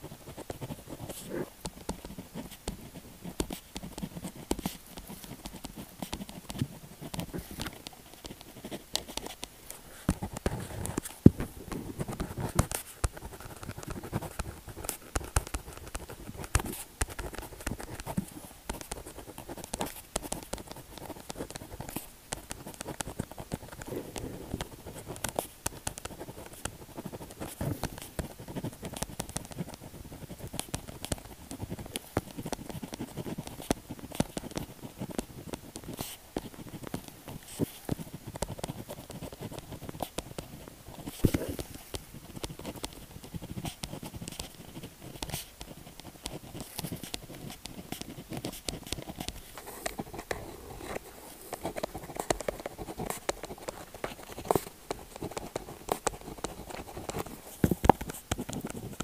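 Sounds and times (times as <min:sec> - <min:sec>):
pen scratching and tapping on paper: 0:00.0 - 0:59.0.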